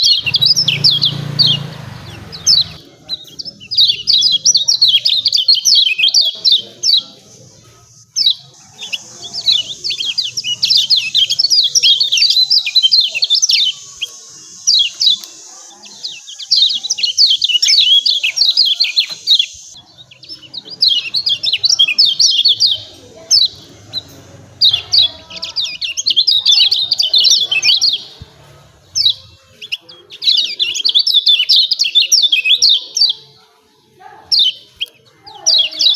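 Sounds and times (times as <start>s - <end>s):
bird chirping: 0.0s - 33.3s.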